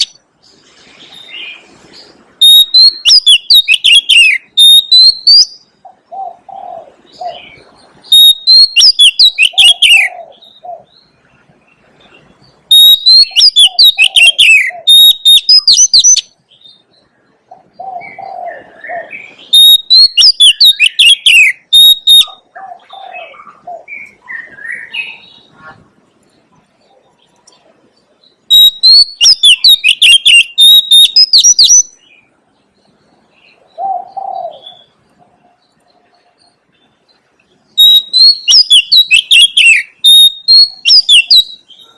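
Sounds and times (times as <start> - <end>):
bird singing whistled notes and trills: 0.0 - 41.9.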